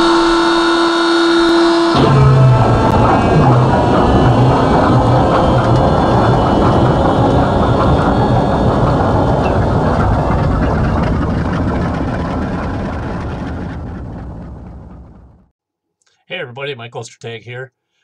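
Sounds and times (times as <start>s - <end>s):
diesel locomotive engine rumble: 0.0s - 15.5s.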